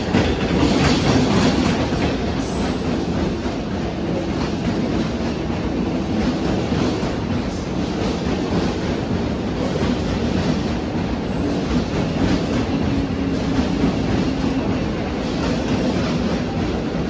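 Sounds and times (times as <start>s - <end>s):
train wheels rumbling on rail: 0.0s - 17.0s
wheels clattering over track: 0.0s - 17.0s.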